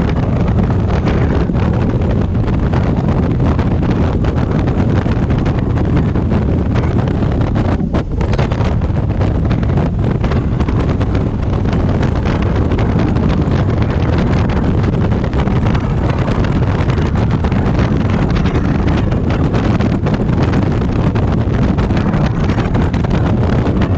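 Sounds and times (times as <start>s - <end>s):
motorcycle running noise: 0.0s - 23.9s
wind buffeting microphone: 0.0s - 23.9s.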